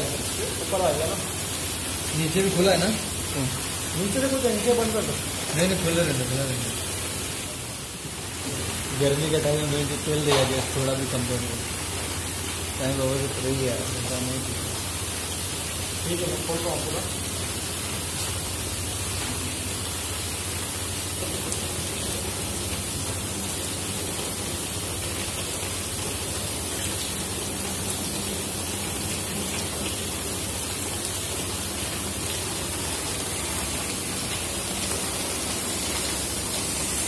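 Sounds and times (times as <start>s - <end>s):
low pump hum: 0.0s - 37.0s
water rushing through pipes: 0.0s - 37.0s.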